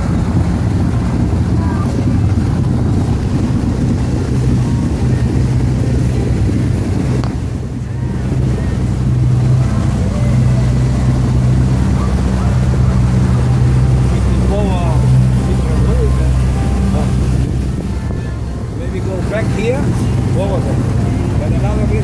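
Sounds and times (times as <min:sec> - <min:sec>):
outboard motor drone: 0:00.0 - 0:22.0
water rushing and splashing: 0:00.0 - 0:22.0
wind buffeting microphone: 0:00.0 - 0:22.0.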